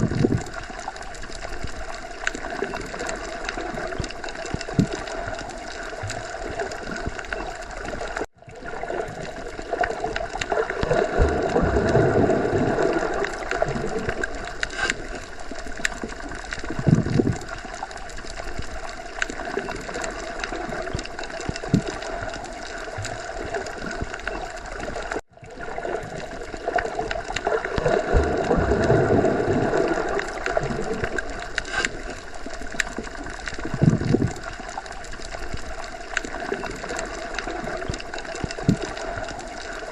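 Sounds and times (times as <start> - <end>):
underwater watery rush: 0.0 - 39.9.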